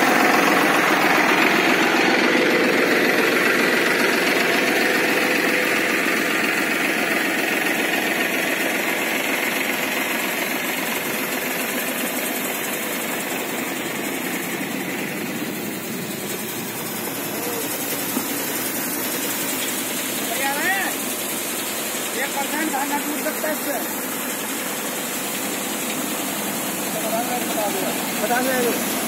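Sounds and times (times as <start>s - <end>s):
thresher and tractor engine running: 0.0s - 29.0s.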